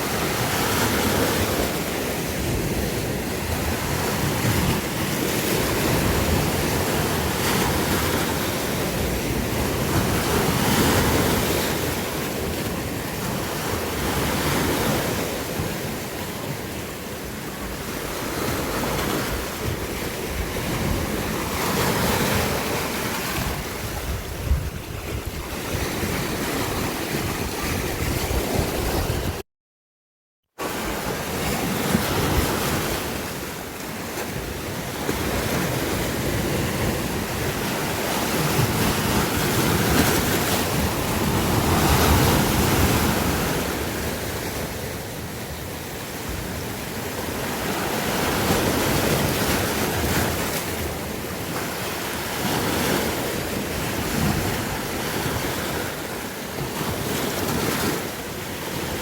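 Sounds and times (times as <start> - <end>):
sea waves breaking on shore: 0.0 - 29.4, 30.6 - 59.0.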